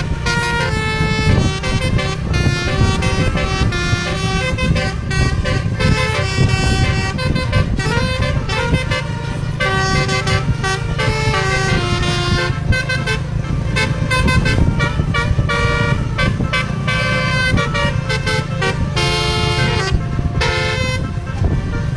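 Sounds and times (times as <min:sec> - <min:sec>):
bus musical horn melody: 0:00.0 - 0:21.9
steady low rumble: 0:00.0 - 0:21.9.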